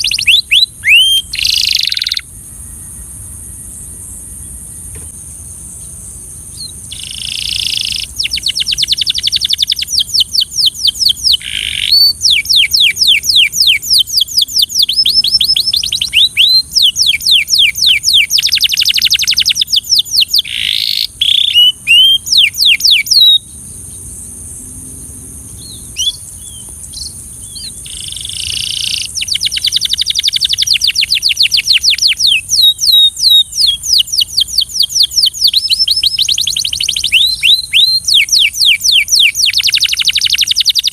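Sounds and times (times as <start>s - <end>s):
canary singing trills: 0.0s - 5.1s, 5.7s - 24.4s, 25.2s - 40.9s.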